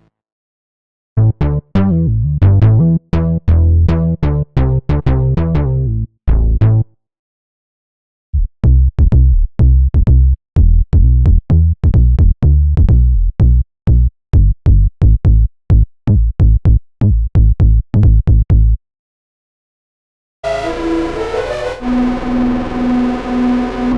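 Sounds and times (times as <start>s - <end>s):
synthesizer bass notes: 1.2s - 6.9s, 8.4s - 18.8s, 20.4s - 23.9s.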